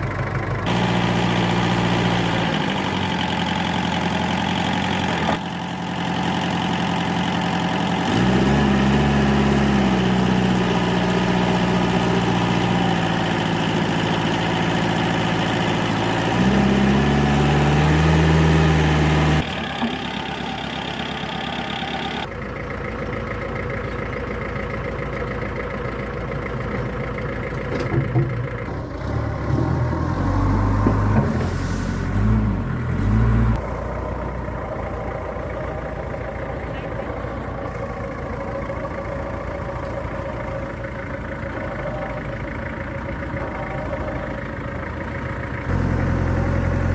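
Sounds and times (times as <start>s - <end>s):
truck engine idling and revving: 0.0s - 46.9s.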